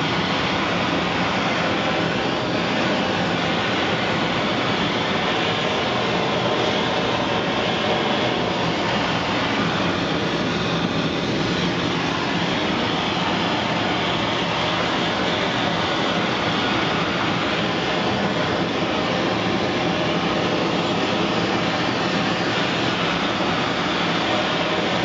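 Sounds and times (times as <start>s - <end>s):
propane torch flame rushing: 0.0s - 25.0s.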